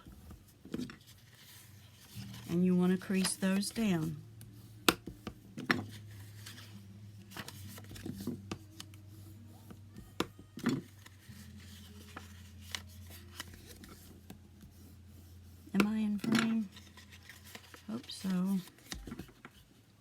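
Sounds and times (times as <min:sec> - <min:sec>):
steady low hum: 0:01.7 - 0:17.9.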